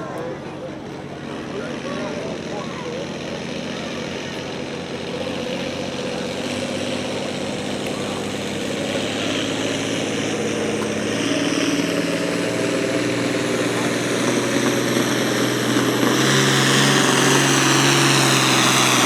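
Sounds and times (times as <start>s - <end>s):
tractor engine working under load: 0.0s - 19.0s.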